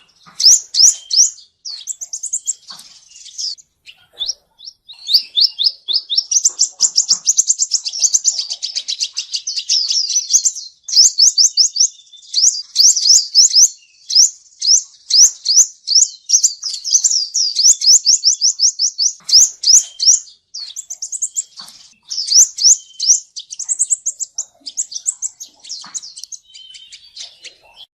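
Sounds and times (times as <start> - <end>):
sunbird chirping song: 0.0 - 27.9.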